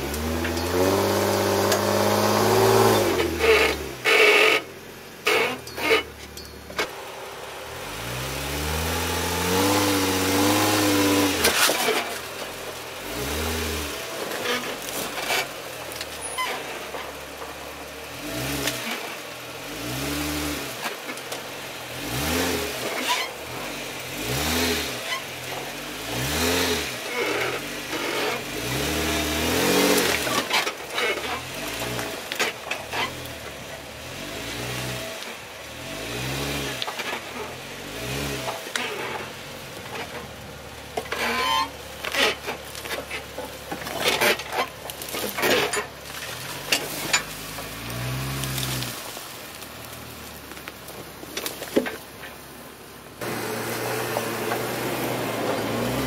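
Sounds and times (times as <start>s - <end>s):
car engine revving: 0.0s - 6.1s, 6.8s - 51.4s, 53.1s - 56.0s.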